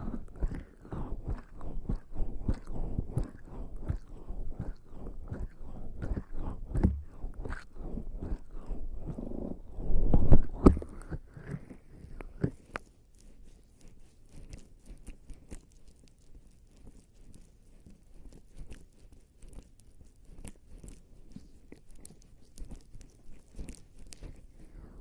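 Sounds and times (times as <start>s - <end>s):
sticky crackling of jelly on skin: 0.0s - 25.0s.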